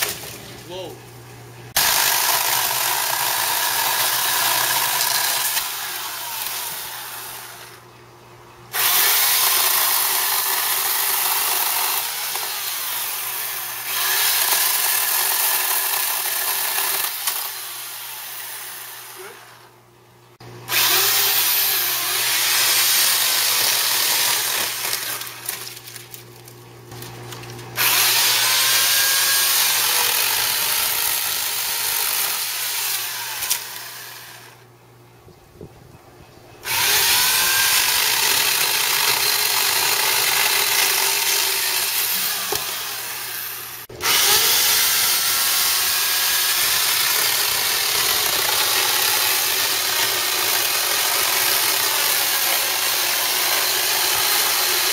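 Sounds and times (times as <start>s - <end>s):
electric chainsaw cutting wood: 1.7s - 7.8s, 8.7s - 19.8s, 20.6s - 26.1s, 26.9s - 34.7s, 36.6s - 54.9s.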